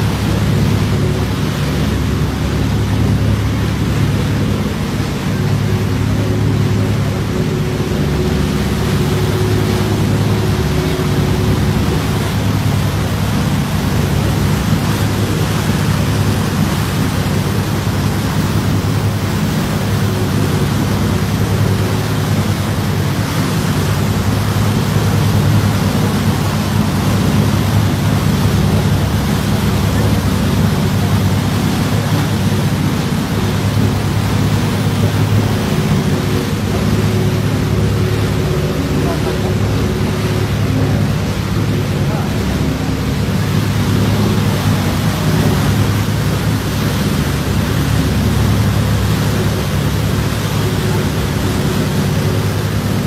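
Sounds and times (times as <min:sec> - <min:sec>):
boat engine humming: 0:00.0 - 0:53.0
churning water: 0:00.0 - 0:53.0.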